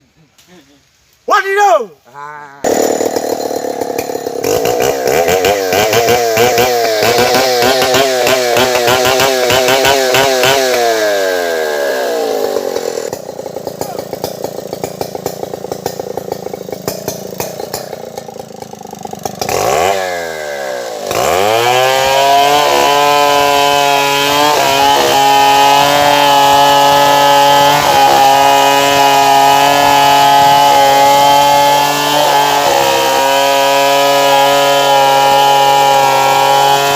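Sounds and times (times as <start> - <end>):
chainsaw engine revving: 2.6 - 36.9.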